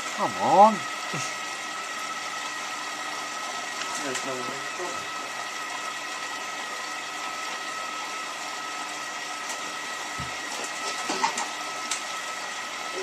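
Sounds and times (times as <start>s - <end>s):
washing machine humming and whining: 0.0s - 13.0s.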